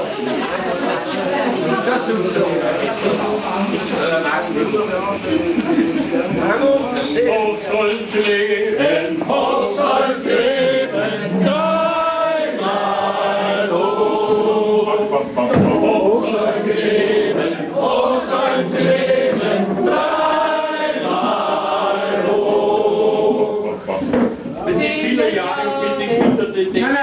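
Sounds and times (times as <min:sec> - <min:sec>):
group of voices singing: 0:00.0 - 0:27.0.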